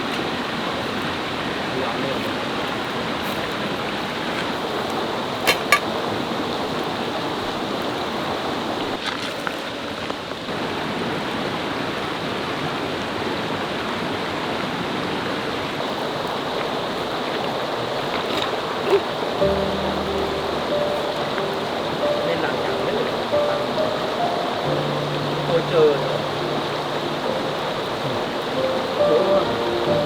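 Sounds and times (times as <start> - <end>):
rushing water of stream: 0.0 - 30.0.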